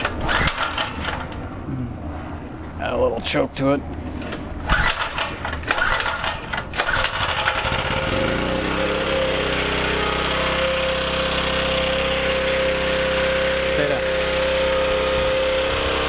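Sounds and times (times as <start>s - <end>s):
portable generator engine running: 0.0s - 2.2s, 4.2s - 16.0s.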